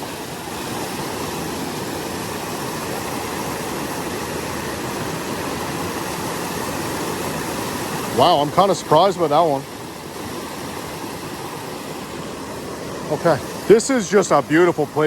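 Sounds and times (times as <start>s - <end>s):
water rushing over small waterfall: 0.0s - 15.0s.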